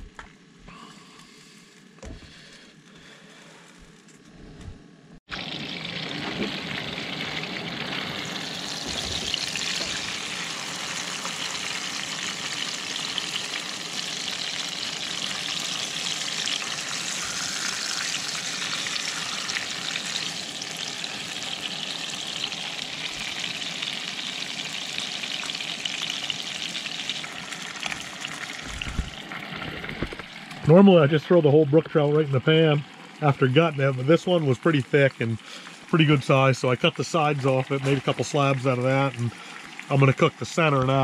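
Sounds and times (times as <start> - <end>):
fish frying in oil: 5.3 - 41.0.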